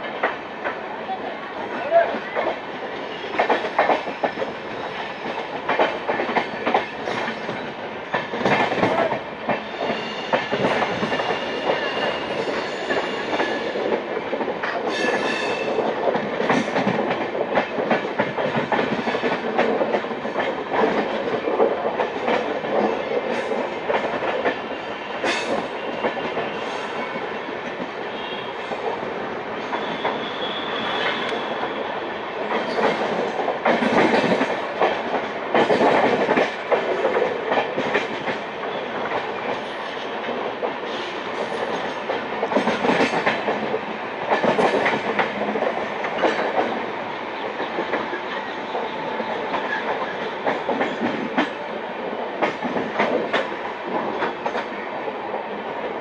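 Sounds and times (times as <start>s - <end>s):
train wheels clattering over rail joints: 3.2s - 31.8s, 32.4s - 55.4s.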